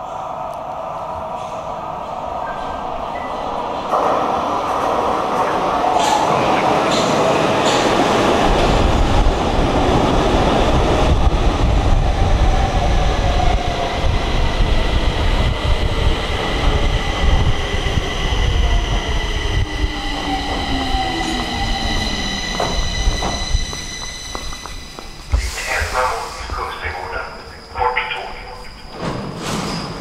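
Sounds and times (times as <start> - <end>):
train wheels rumbling on rails: 1.4 - 30.0.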